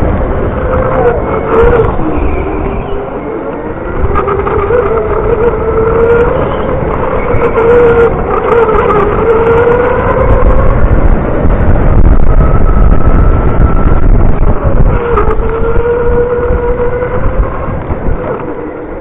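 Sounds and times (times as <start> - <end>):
electric go-kart motor whining: 0.0 - 19.0
low rumble: 0.0 - 19.0.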